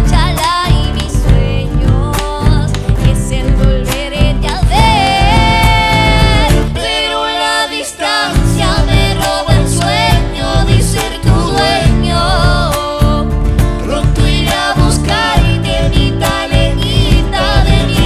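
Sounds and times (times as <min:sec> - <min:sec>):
electric bass: 0:00.0 - 0:07.0, 0:08.4 - 0:18.0
acoustic guitars: 0:00.0 - 0:18.0
person singing: 0:00.0 - 0:18.0.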